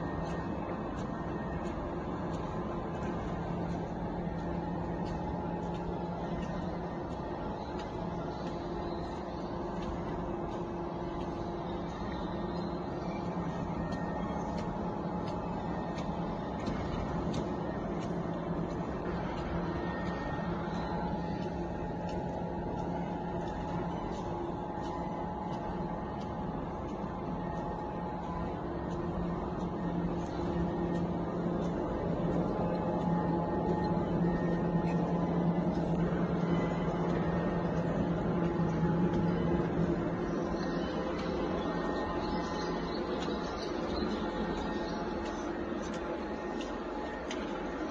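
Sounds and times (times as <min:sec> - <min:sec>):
light machine clicks: 0:00.0 - 0:47.9
machine motor hum: 0:00.0 - 0:47.9.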